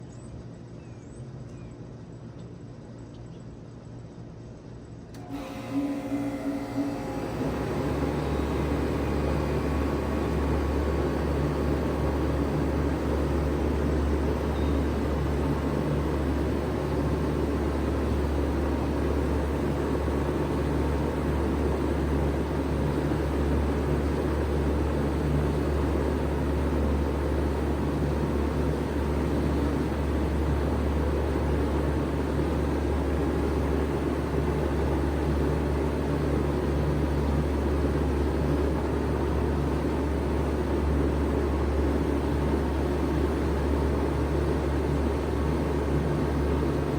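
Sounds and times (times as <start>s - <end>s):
heat pump humming: 5.1s - 46.9s.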